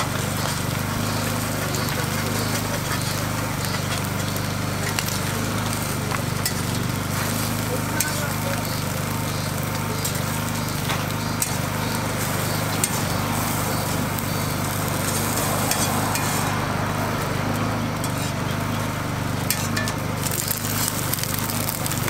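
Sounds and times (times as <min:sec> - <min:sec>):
steady mechanical hum: 0:00.0 - 0:22.0
metal spatula scraping griddle: 0:00.1 - 0:22.0.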